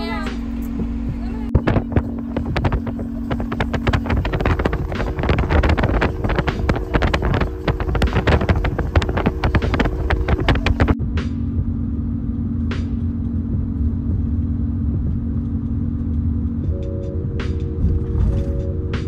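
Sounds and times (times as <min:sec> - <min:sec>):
engine drone and road rumble: 0:00.0 - 0:19.0
rumble inside a coach: 0:00.0 - 0:19.0
wind buffeting microphone: 0:00.4 - 0:11.1, 0:13.6 - 0:19.0.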